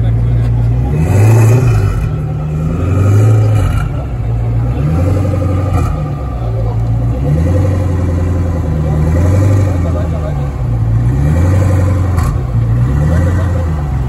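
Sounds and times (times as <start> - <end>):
car engine with throttle blips: 0.0 - 14.0.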